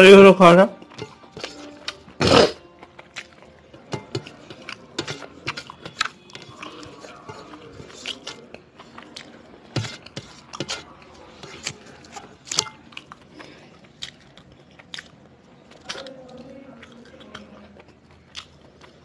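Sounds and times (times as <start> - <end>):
chewing food: 0.7 - 19.0.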